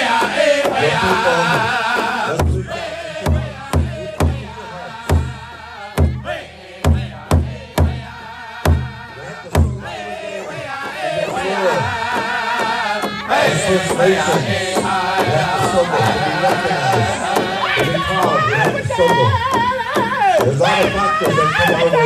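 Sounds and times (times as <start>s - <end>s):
men singing a chant: 0.0s - 22.0s
powwow drum beats: 0.0s - 22.0s.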